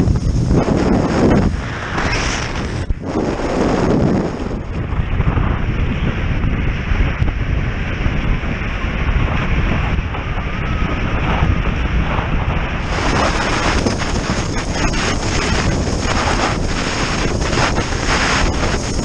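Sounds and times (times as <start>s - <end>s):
water rushing under board: 0.0s - 19.0s
wind buffeting microphone: 0.0s - 19.0s.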